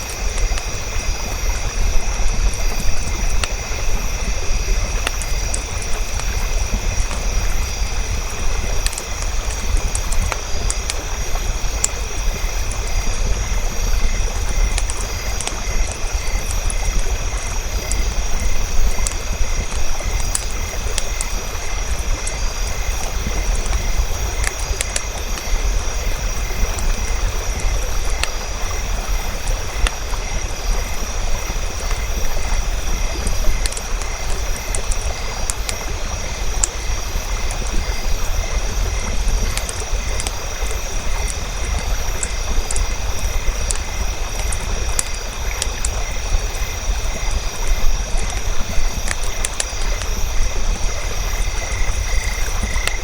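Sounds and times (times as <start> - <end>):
campfire roaring: 0.0 - 53.0
fire crackles and pops: 0.0 - 53.0.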